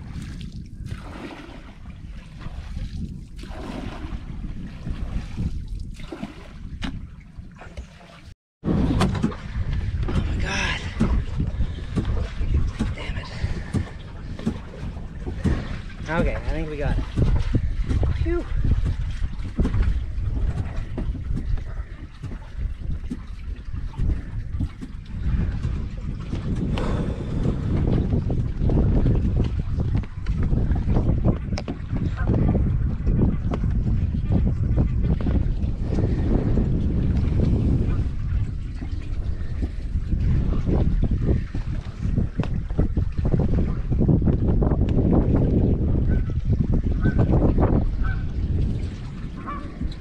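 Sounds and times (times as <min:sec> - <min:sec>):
water splashing from a pole: 0:00.0 - 0:50.0
wind buffeting microphone: 0:00.0 - 0:50.0.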